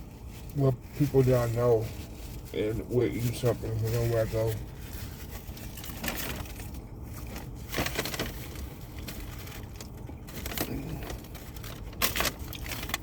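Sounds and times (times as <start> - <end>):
crackling handling noises: 0.0 - 13.0.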